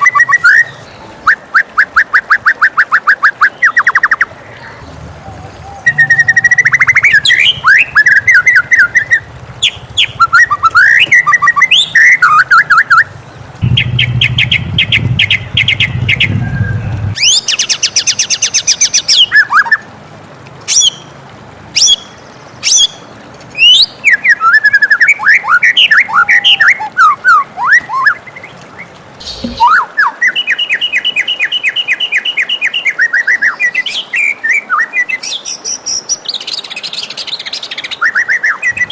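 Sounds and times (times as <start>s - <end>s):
bird singing varied song: 0.0s - 19.9s, 20.7s - 21.1s, 21.8s - 38.9s.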